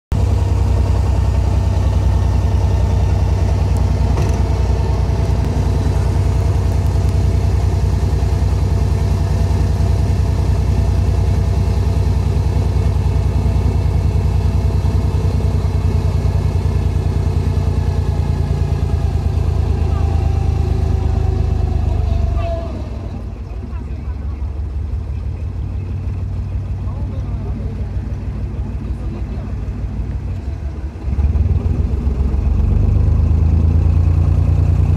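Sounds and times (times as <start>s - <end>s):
boat diesel engine running: 0.1s - 34.9s.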